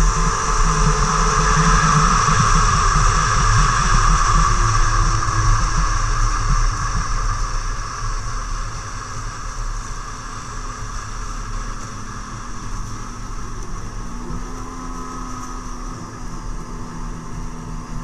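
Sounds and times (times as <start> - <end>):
snowmobile engine droning: 0.0 - 18.0.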